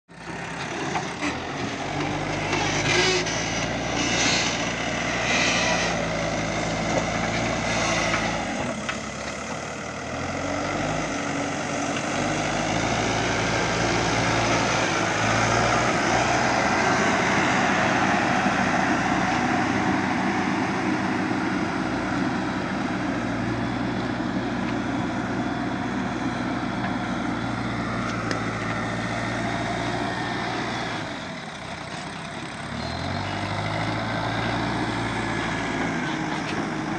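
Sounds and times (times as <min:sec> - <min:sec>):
diesel engine under load: 0:00.1 - 0:36.9.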